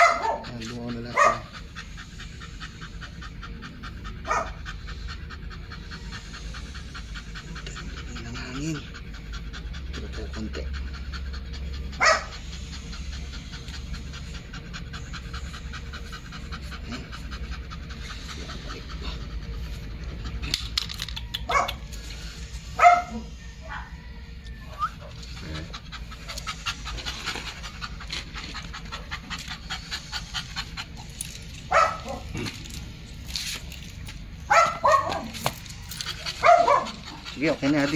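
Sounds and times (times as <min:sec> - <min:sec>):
dog panting: 0:00.0 - 0:37.9.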